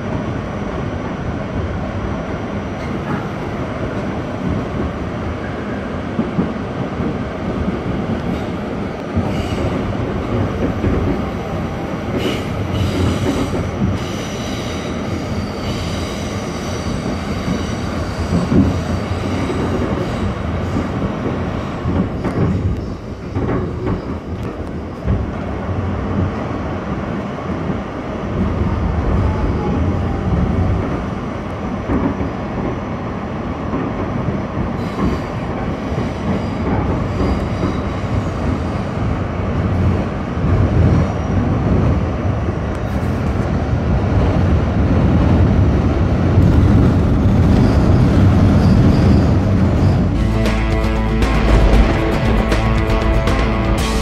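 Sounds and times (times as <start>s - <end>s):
subway train rumbling on track: 0.0s - 54.0s.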